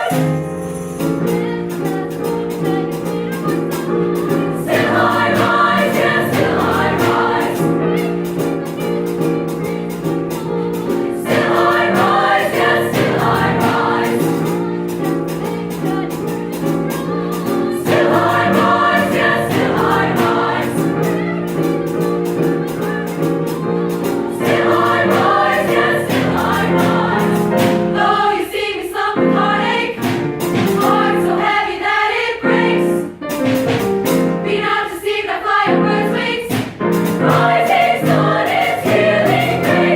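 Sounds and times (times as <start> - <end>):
choir singing in parts: 0.0 - 33.2, 33.8 - 39.9.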